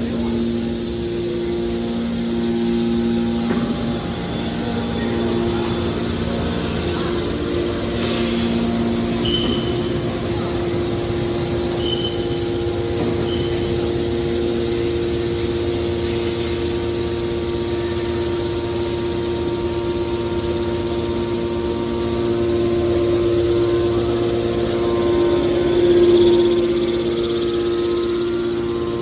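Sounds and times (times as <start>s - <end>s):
motor and hydraulic pump humming: 0.0s - 29.0s.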